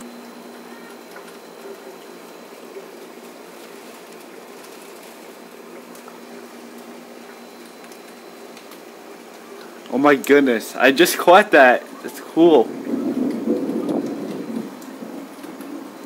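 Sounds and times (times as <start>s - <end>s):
heavy rain falling: 0.0s - 10.1s, 10.9s - 16.0s.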